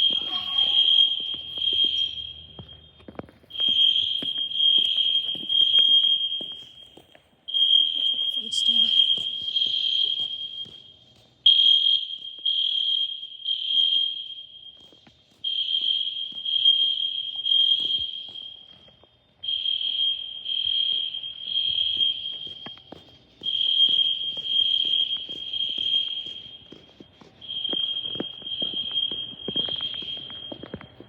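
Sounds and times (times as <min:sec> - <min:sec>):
fire alarm horns beeping: 0:00.0 - 0:31.0.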